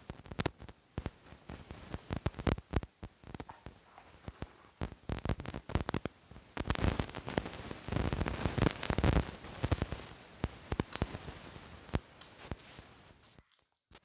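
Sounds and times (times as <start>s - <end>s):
crackly microphone static: 0.0s - 14.0s.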